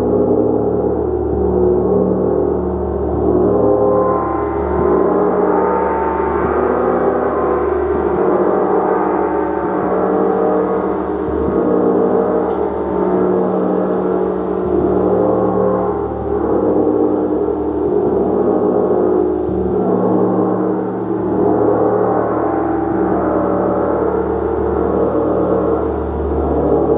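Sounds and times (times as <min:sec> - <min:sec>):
gong ringing: 0:00.0 - 0:26.9.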